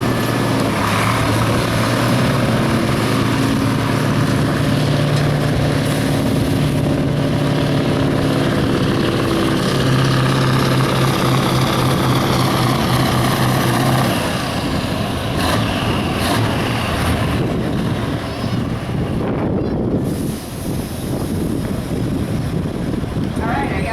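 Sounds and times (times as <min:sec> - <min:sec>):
truck engine at full throttle: 0:00.0 - 0:23.9.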